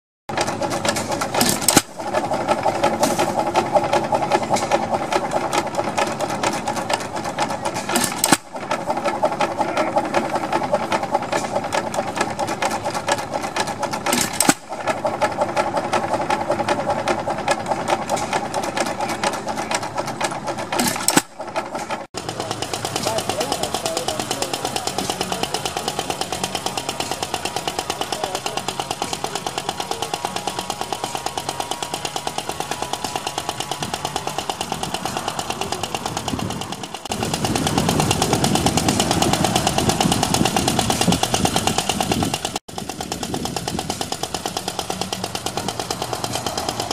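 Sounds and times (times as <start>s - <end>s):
stationary gas engine clattering: 0.3s - 46.9s.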